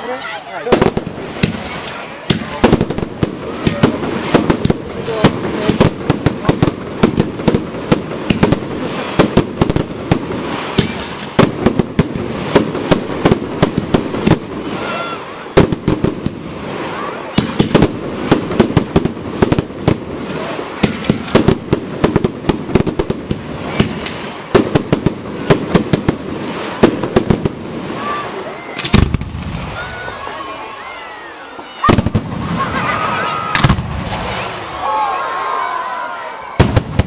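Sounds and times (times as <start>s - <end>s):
crowd voices: 0.0s - 37.0s
fireworks bangs and crackles: 0.0s - 37.0s.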